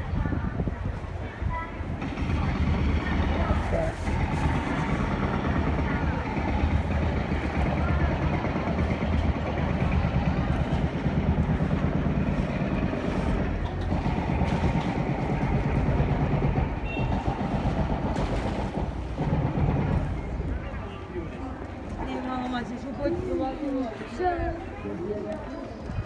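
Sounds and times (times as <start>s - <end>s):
busy street noise: 0.0s - 26.0s.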